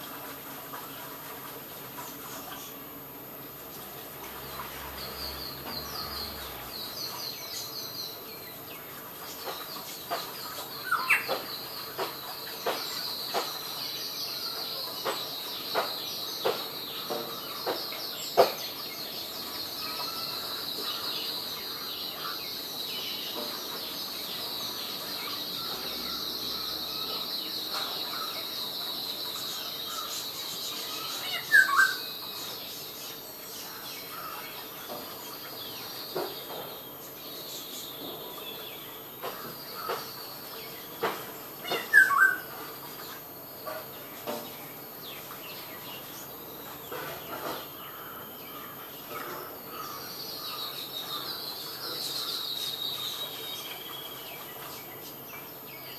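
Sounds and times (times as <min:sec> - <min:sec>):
small birds chirring: 0:02.0 - 0:55.9.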